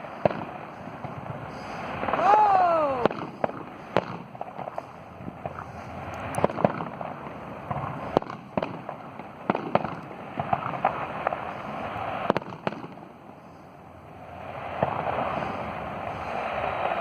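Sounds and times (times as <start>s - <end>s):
fireworks cracking and banging: 0.0s - 13.4s, 14.1s - 17.0s
steady background noise: 0.0s - 17.0s.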